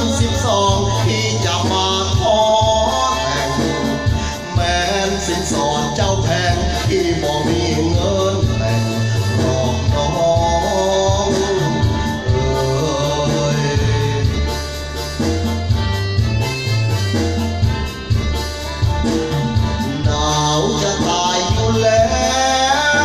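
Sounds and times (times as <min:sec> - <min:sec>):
instrumental melody over bass beat: 0:00.0 - 0:23.0.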